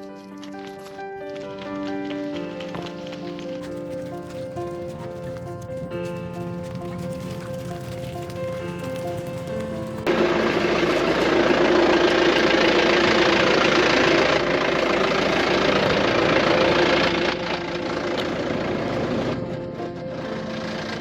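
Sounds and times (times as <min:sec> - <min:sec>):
engine running loudly: 0:02.3 - 0:21.0.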